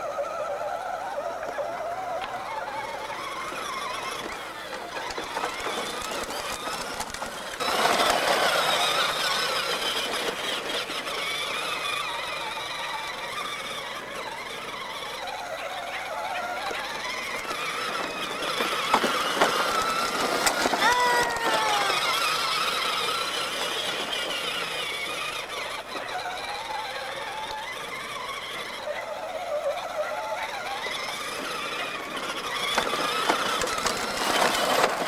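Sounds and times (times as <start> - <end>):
electric motor whining: 0.0 - 35.0.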